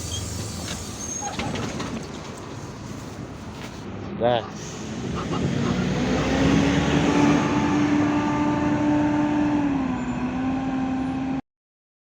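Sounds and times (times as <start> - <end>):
bus engine whine: 0.0 - 11.4
road rumble: 0.0 - 11.4.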